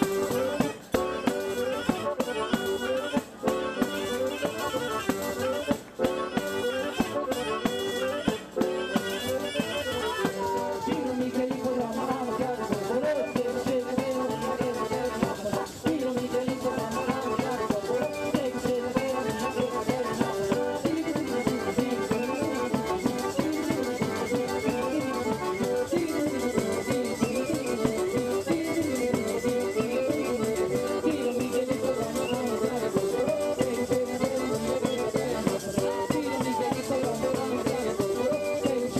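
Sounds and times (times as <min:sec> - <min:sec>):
band playing world music: 0:00.0 - 0:38.9.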